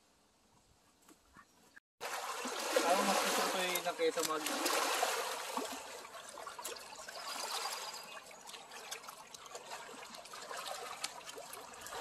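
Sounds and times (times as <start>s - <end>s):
small waves lapping on shore: 2.0s - 12.0s.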